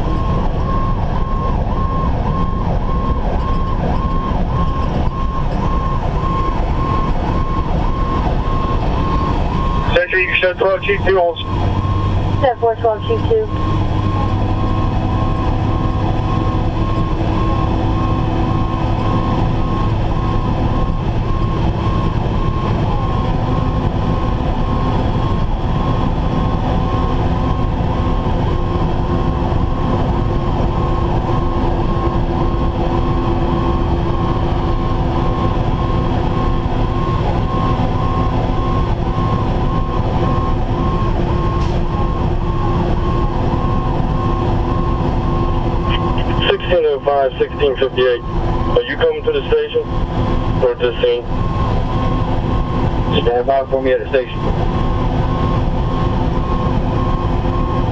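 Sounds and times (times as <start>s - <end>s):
fire engine siren wailing: 0.0s - 57.9s
truck engine drone: 0.0s - 57.9s.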